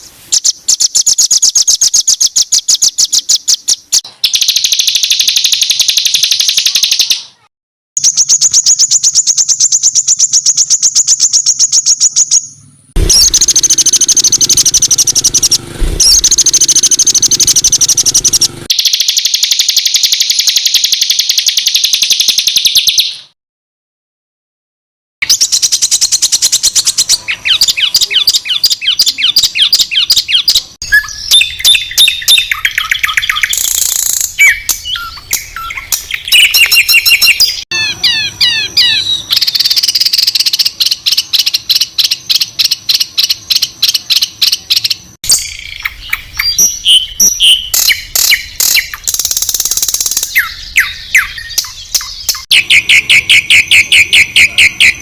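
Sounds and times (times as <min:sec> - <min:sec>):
songbirds trilling and chattering: 0:00.0 - 0:23.1, 0:25.2 - 0:55.0.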